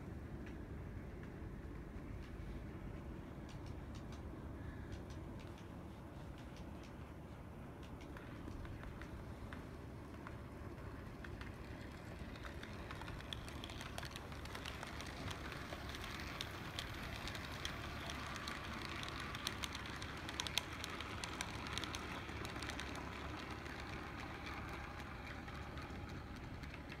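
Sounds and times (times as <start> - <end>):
model train rumbling: 0.8 - 27.0
wheels clicking over rail joints: 3.3 - 27.0.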